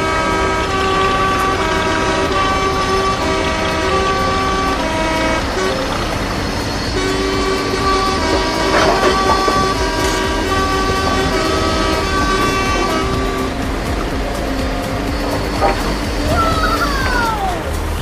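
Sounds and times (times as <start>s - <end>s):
horn-like tones tune: 0.0s - 18.0s
steady low rumble: 0.0s - 18.0s.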